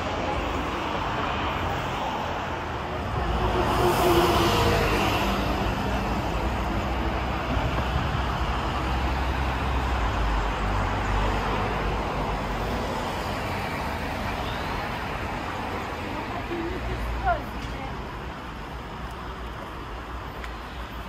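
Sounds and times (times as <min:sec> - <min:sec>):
bus rumbling: 0:00.0 - 0:21.0
cars driving past: 0:00.0 - 0:21.0.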